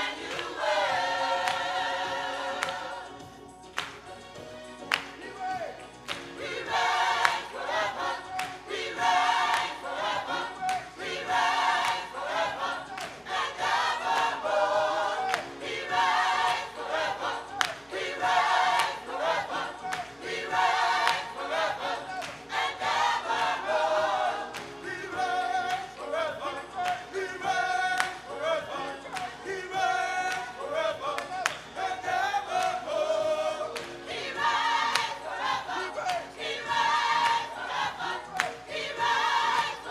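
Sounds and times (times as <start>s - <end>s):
gospel choir singing: 0.0s - 39.9s
instrumental backing with beat: 0.0s - 39.9s.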